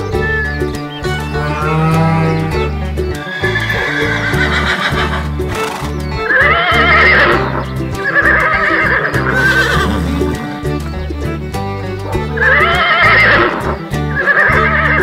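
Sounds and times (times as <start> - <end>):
background music with bass line: 0.0 - 15.0
horse neighing: 1.1 - 11.0, 12.3 - 15.0.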